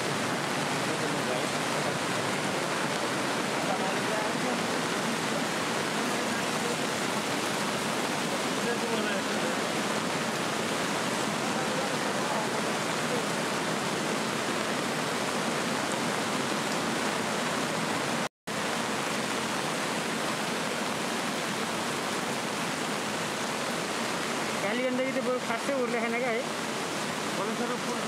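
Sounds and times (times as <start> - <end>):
river torrent rushing: 0.0 - 28.0.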